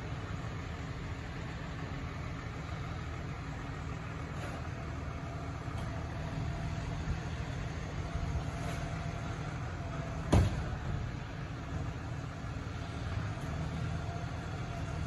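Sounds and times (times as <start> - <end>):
garbage truck idling: 0.0 - 15.0.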